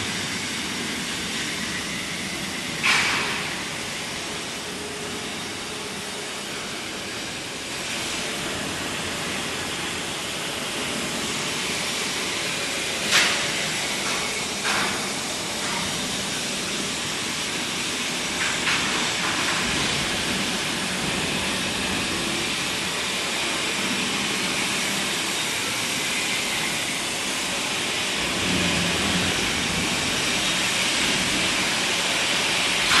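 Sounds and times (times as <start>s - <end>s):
hissing workshop machinery: 0.0s - 33.0s.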